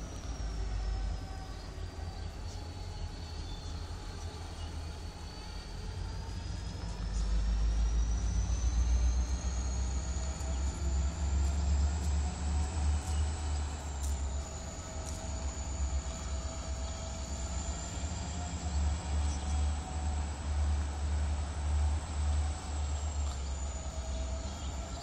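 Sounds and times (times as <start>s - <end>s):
freight train rumble: 0.0s - 25.0s.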